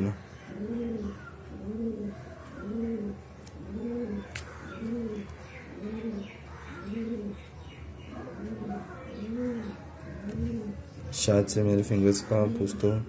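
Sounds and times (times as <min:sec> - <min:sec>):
dove cooing: 0:00.3 - 0:07.5, 0:08.1 - 0:11.3, 0:11.9 - 0:13.0.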